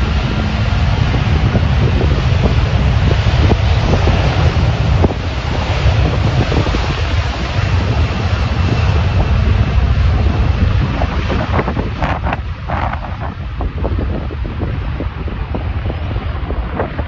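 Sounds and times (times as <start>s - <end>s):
jet engines at takeoff power: 0.0s - 17.0s
wind buffeting on microphone: 0.0s - 17.0s.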